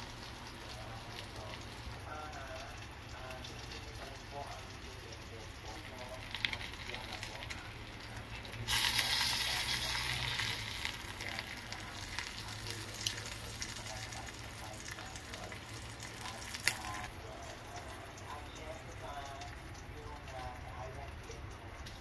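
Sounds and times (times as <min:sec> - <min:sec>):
shrimp sizzling in hot oil: 0:00.0 - 0:22.0.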